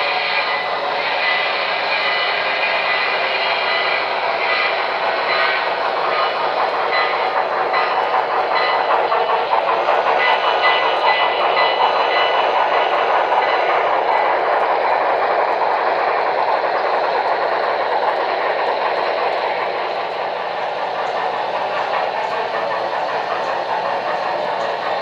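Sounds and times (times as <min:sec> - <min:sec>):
model train running: 0:00.0 - 0:25.0.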